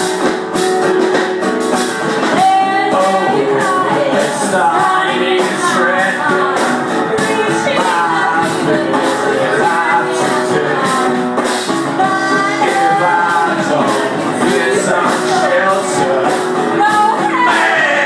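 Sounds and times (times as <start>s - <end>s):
rock band playing: 0.0s - 18.0s
person singing: 2.2s - 18.0s.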